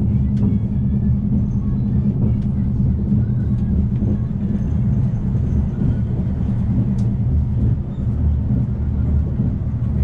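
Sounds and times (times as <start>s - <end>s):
train rumbling from inside: 0.0s - 10.0s.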